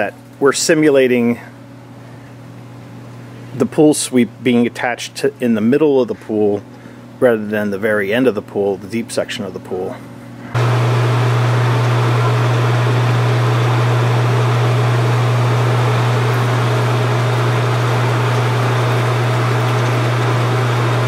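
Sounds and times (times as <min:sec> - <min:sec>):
pool pump motor hum: 0:00.0 - 0:21.0.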